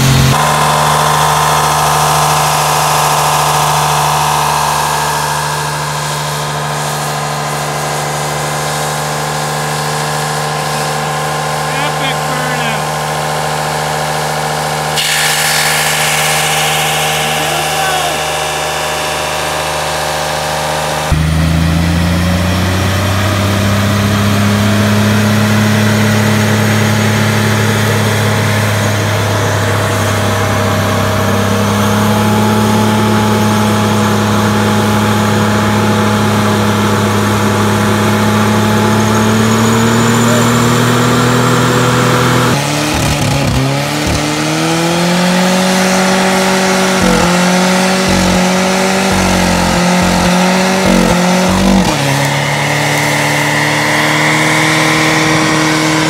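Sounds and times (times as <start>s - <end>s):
car engine revving hard: 0.0s - 56.0s
truck engine at high revs: 0.0s - 56.0s.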